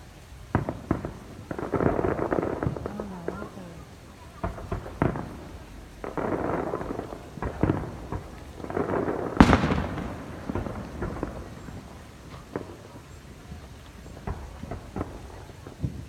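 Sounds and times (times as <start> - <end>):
fireworks booming: 0.0 - 16.0
fireworks crackling: 0.0 - 16.0.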